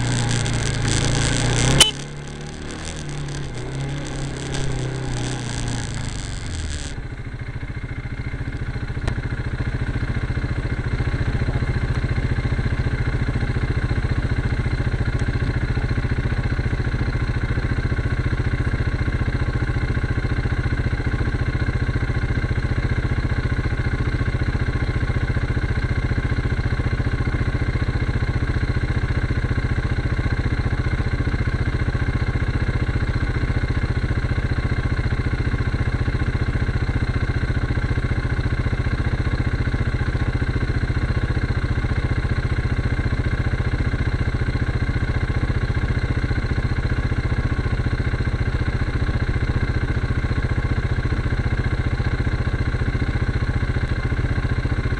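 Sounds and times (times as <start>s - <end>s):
quad engine idling: 0.0s - 54.9s.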